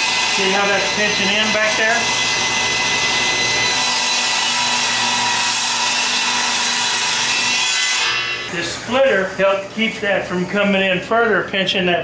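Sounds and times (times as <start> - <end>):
table saw ripping wood: 0.0 - 10.0.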